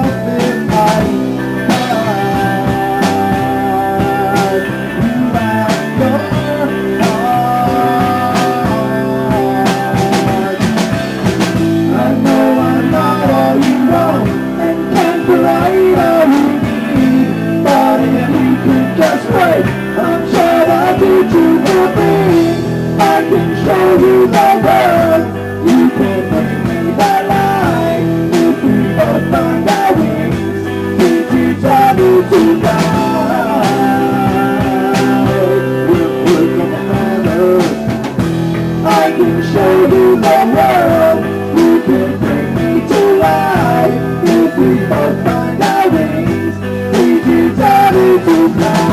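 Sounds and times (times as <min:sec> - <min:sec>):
bass guitar: 0:00.0 - 0:48.9
guitar bending melody: 0:00.0 - 0:48.9
steady drum beat: 0:00.0 - 0:48.9.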